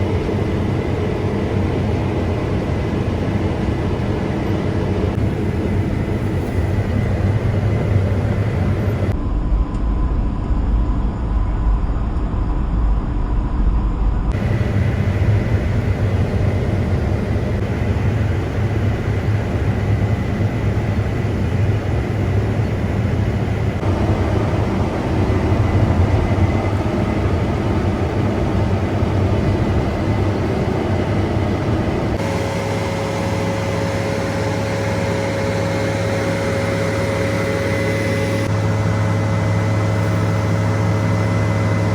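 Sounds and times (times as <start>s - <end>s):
combine harvester droning: 0.0s - 9.2s, 14.3s - 41.9s.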